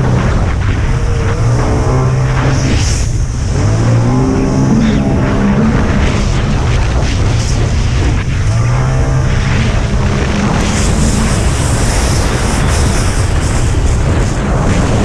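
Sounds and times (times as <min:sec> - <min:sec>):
heavy low rumble: 0:00.0 - 0:15.0
personal watercraft engines: 0:00.0 - 0:15.0.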